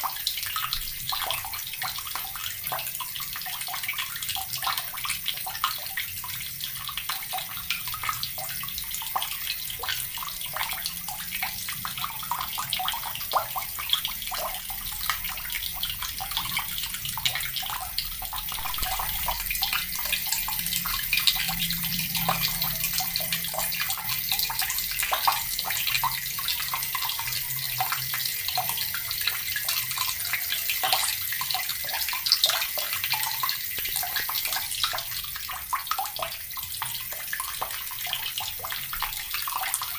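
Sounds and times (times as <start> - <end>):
tap water pouring into bucket: 0.0 - 39.9.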